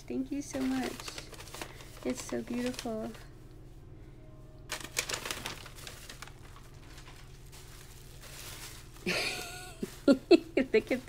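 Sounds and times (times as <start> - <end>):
paper and plastic crinkling: 0.3 - 3.3, 4.7 - 11.0.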